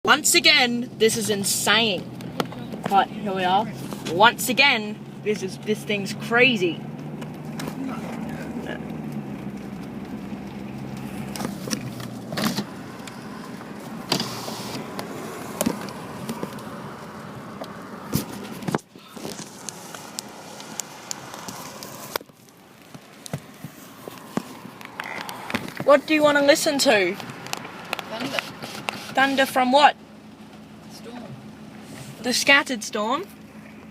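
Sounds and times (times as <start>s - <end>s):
car interior road rush: 0.0s - 33.9s.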